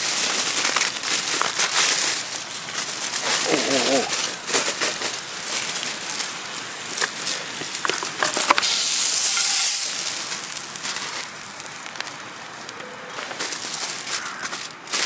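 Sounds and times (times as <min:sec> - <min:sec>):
fire crackling: 0:00.0 - 0:15.0
steak sizzling over fire: 0:00.0 - 0:15.0.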